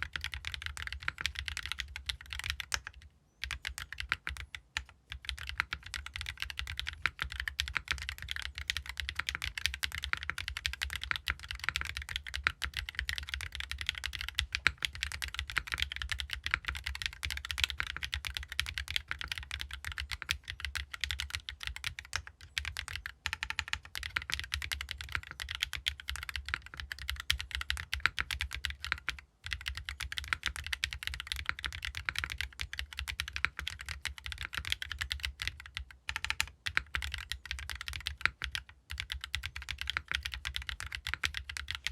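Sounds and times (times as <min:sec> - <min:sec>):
fast mechanical keyboard typing: 0:00.0 - 0:41.9.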